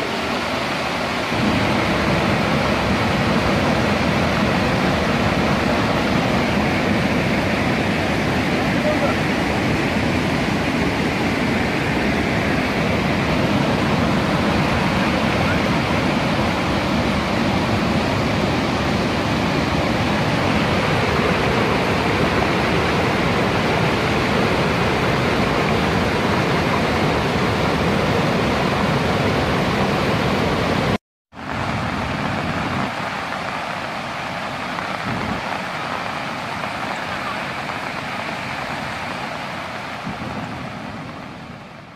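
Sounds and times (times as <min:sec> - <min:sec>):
floodwater rushing and churning: 0:00.0 - 0:41.9.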